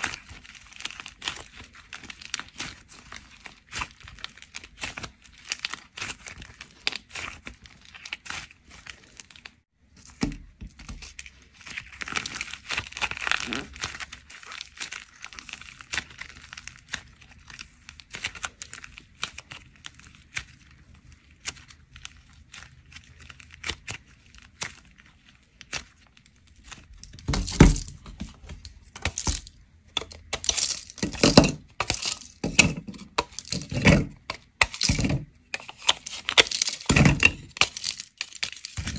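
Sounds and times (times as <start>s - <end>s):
clay crackling while kneaded: 0.0s - 38.9s
dried plaster cracking: 0.0s - 38.9s.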